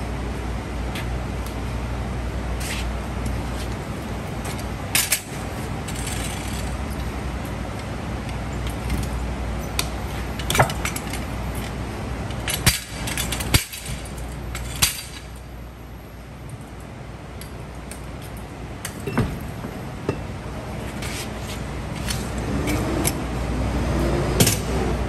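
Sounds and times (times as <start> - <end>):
low shop hum: 0.0 - 25.0.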